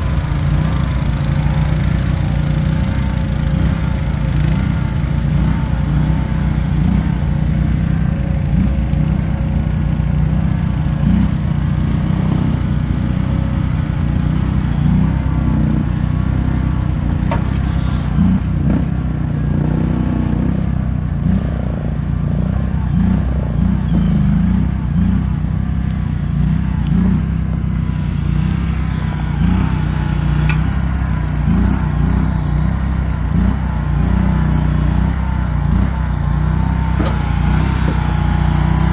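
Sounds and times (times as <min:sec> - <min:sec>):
small engine droning: 0:00.0 - 0:38.9.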